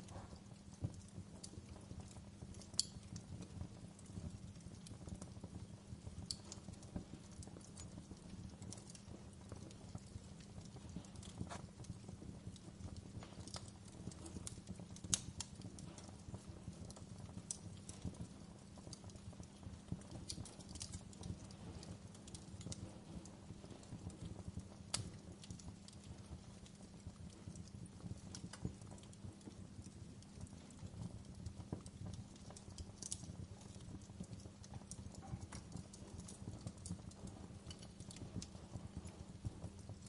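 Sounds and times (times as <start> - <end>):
fire crackling and popping: 0.0 - 40.0
wood fire rumbling: 0.0 - 40.0.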